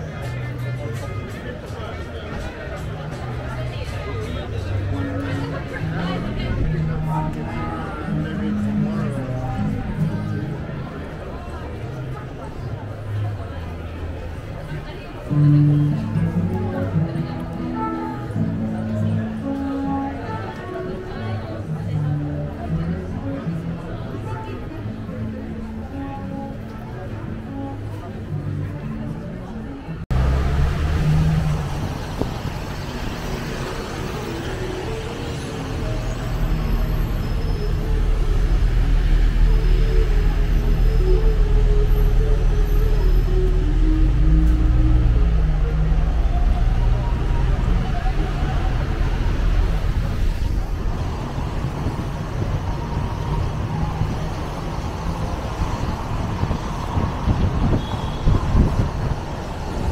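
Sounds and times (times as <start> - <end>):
road vehicle rumble: 0.0 - 59.9.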